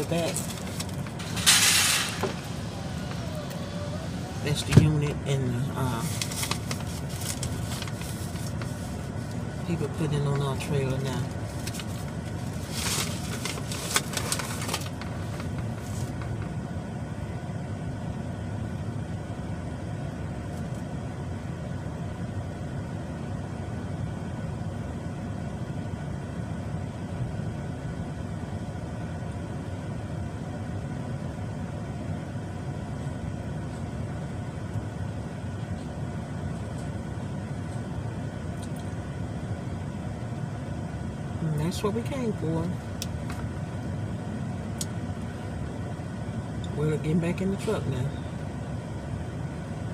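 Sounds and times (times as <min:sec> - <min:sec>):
truck engine idling: 0:00.0 - 0:41.4.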